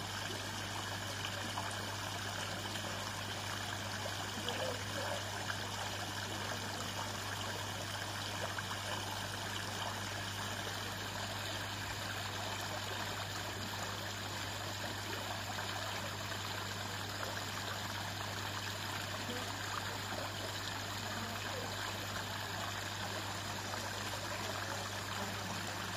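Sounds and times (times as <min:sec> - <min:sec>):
water splashing down small waterfall: 0:00.0 - 0:25.9.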